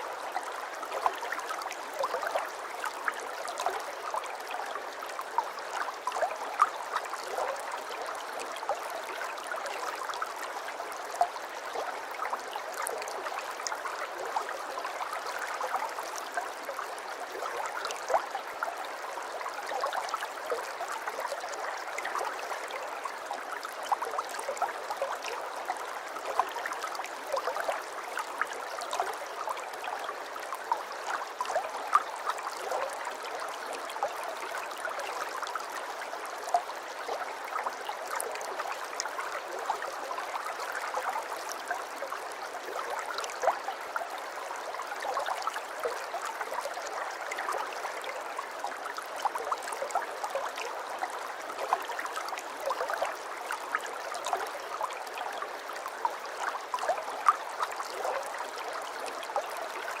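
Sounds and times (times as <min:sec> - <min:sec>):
aquarium water trickling and bubbling: 0:00.0 - 1:00.0
small water plinks and splashes: 0:00.0 - 1:00.0.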